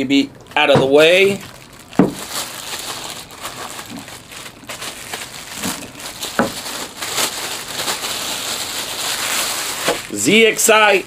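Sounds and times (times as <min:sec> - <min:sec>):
plastic bag crinkling: 0:00.4 - 0:11.0.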